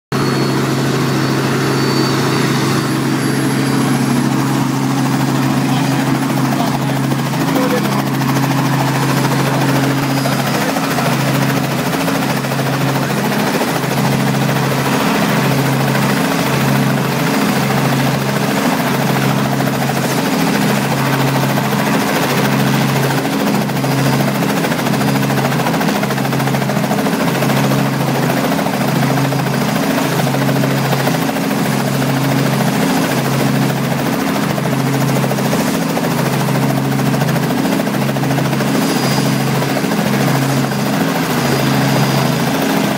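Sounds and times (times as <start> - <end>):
helicopter engine and rotor drone: 0.1 - 42.9.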